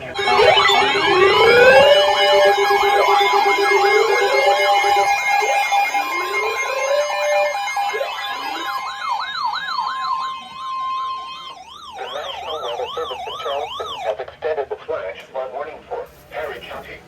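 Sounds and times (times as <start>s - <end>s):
steady high beep: 0.0s - 14.1s
siren-like alarm tones sweeping: 0.0s - 14.2s.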